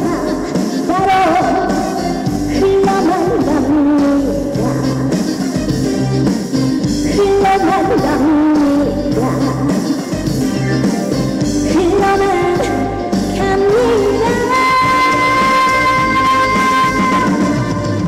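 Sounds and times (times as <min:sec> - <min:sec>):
woman singing: 0:00.0 - 0:05.8, 0:06.9 - 0:10.5, 0:11.5 - 0:18.0
upbeat band music: 0:00.0 - 0:18.0.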